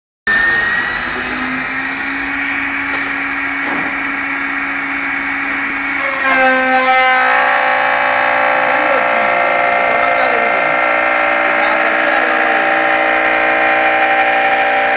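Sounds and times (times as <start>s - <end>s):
pitched tones: 0.3s - 14.9s
router cutting wood: 0.3s - 14.9s.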